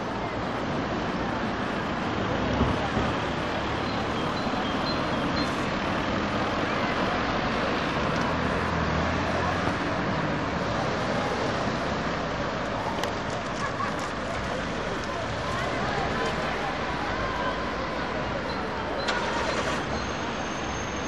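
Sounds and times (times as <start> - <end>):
passing cars hiss and rumble: 0.0 - 21.0.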